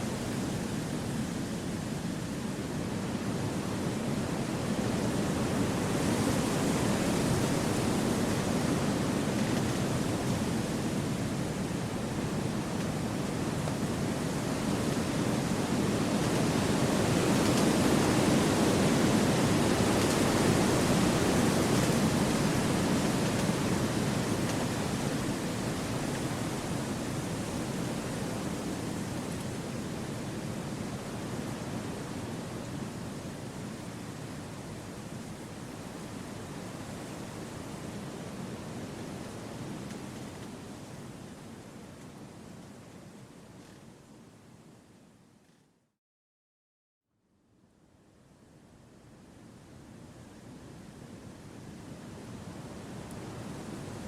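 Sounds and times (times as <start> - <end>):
wind blowing through trees: 0.0 - 45.2.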